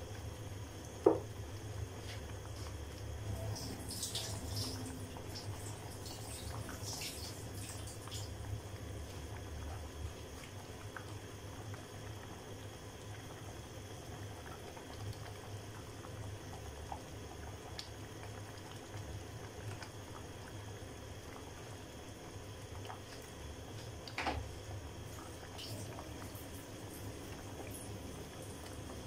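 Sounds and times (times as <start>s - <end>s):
low steady hum: 0.0s - 29.0s
pot bubbling with pops: 0.0s - 29.0s.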